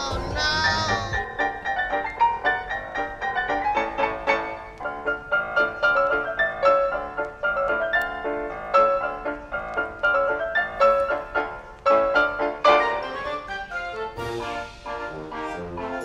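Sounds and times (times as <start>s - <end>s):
lively keyboard melody: 0.0s - 16.0s.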